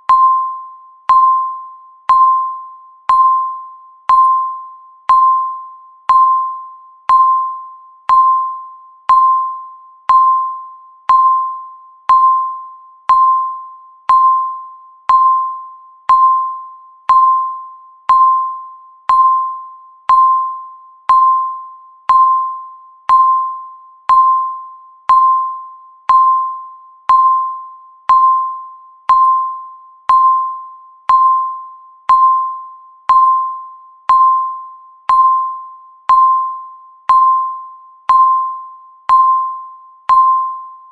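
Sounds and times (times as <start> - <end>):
timer beeps: 0.0 - 40.9.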